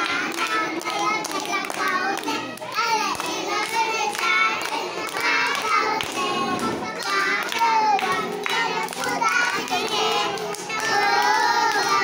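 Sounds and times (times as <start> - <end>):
children chanting a rhyme: 0.0 - 12.0
rhythmic hand clapping: 0.0 - 12.0.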